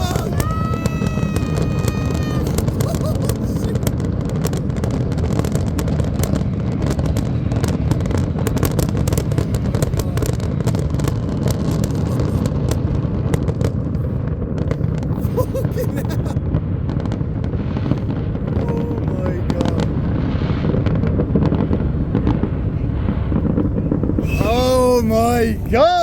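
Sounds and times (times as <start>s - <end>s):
fireworks crackles and pops: 0.0s - 26.0s
high whistling firework: 0.0s - 26.0s.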